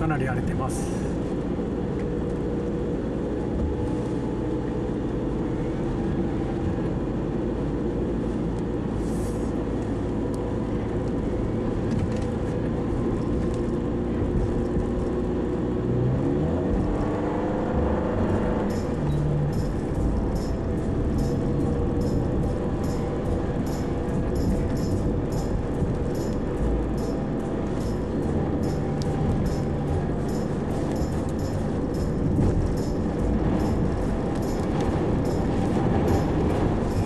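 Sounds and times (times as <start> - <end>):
tyres on wet road: 0.0 - 37.0
van engine running: 0.0 - 37.0.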